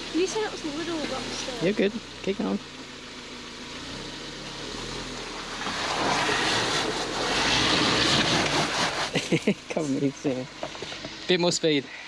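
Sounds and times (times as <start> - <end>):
engine pulling under load: 0.0 - 11.8.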